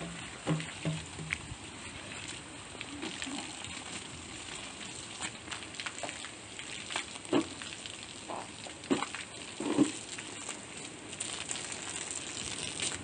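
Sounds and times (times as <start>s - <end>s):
hose water spraying on metal: 0.0s - 13.0s.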